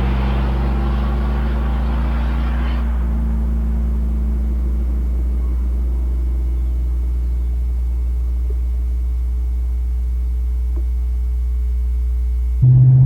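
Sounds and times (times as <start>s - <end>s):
car engine exhaust drone: 0.0s - 13.0s.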